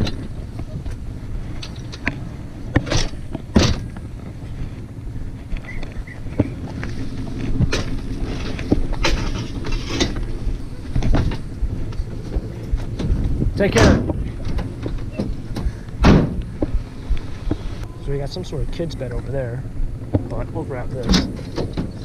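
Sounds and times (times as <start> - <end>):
metal clanks and knocks: 0.0 - 4.4, 5.5 - 17.9, 20.0 - 22.0
steady low rumble: 0.0 - 22.0.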